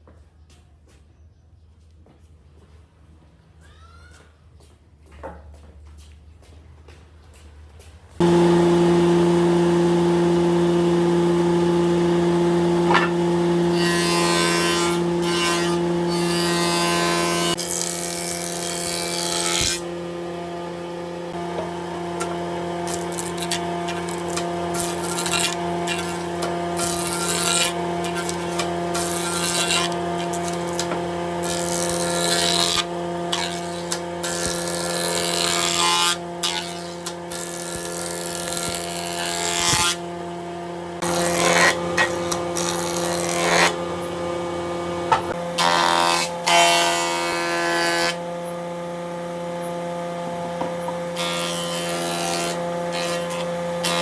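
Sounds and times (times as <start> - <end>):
power tool motor hum: 8.2 - 54.0.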